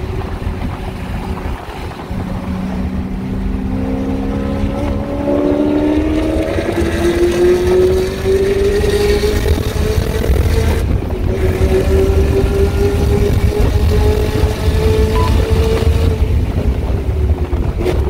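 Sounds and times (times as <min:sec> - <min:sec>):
car engine at full throttle: 0:00.0 - 0:18.0
heavy wind noise: 0:00.0 - 0:18.0.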